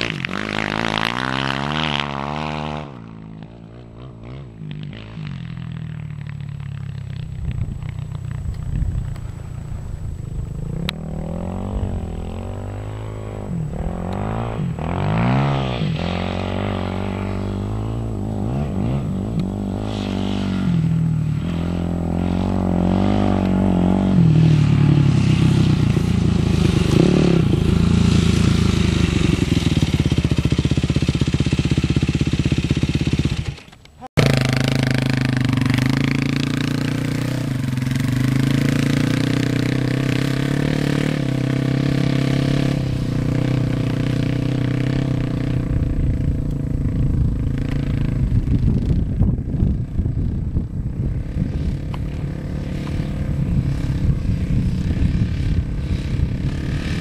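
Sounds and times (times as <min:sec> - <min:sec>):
dirt bike engine revving: 0:00.0 - 0:07.0, 0:10.5 - 0:50.4, 0:51.0 - 0:57.0.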